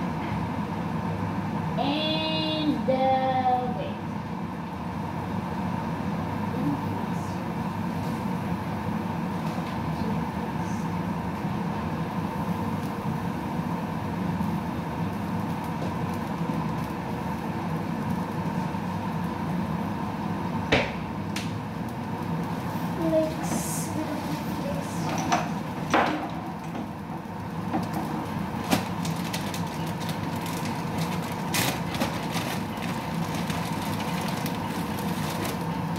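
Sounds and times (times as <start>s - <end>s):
low hum with faint hiss: 0.0s - 35.9s.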